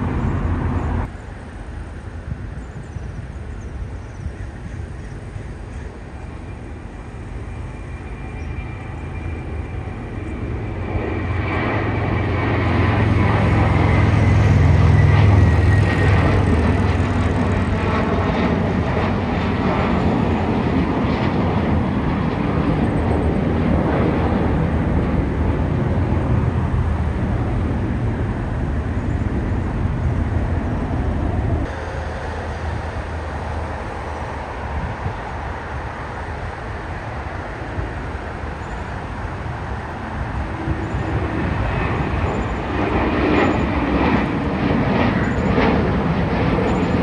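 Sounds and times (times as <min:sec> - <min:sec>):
distant airport hum: 0:00.0 - 0:47.0
jet airliner engine rumble: 0:00.0 - 0:47.0.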